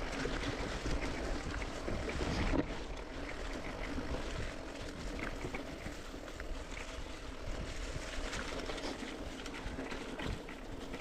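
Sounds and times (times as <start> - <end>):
bike tyres rumbling on dirt: 0.0 - 11.0
small clicks and rattles: 0.0 - 11.0
wind on microphone: 0.0 - 11.0.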